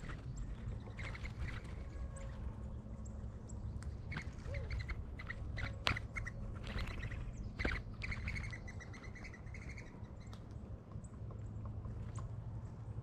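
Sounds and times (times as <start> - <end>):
small birds chirping: 0.0 - 10.4
steady low rumble: 0.0 - 13.0.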